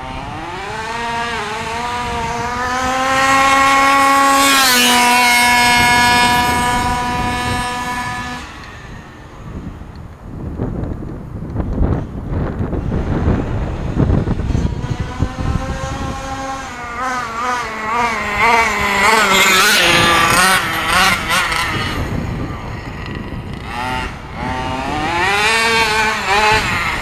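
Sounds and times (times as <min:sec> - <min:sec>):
small two-stroke engine revving: 0:00.0 - 0:27.0.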